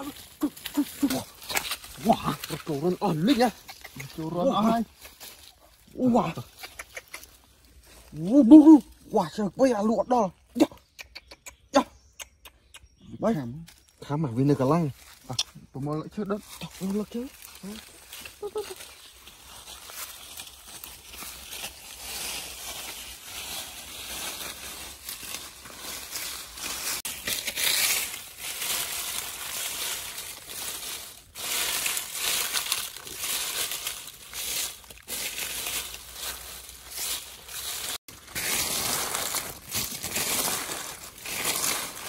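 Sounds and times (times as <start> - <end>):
hands raking dry leaves: 0.0 - 9.4, 16.2 - 42.0.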